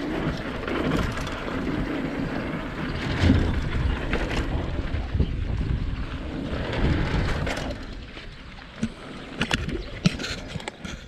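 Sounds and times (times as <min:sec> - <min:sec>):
bike tyre rumble: 0:00.0 - 0:11.0
wind rushing on microphone: 0:00.0 - 0:11.0.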